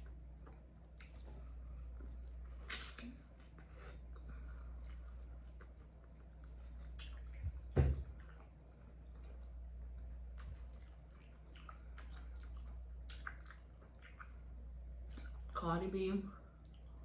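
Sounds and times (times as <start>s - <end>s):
wet chewing: 0.0s - 15.6s.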